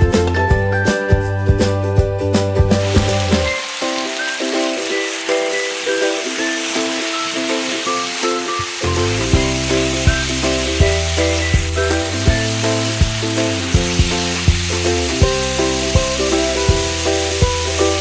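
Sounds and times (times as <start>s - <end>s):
background music with beat: 0.0s - 18.0s
food sizzling in a pan: 2.8s - 18.0s.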